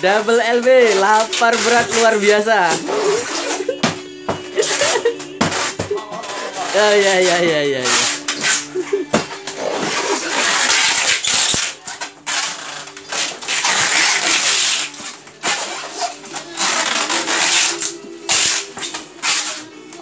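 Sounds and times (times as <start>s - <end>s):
packing tape pulled off roll: 0.5s - 3.8s, 4.5s - 20.0s.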